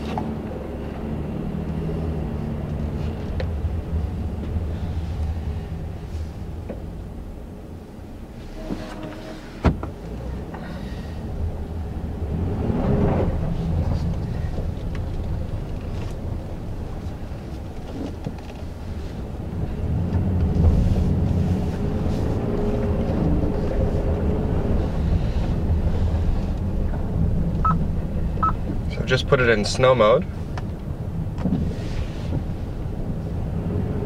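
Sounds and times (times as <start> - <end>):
truck engine and tyres rumbling: 0.0 - 34.0.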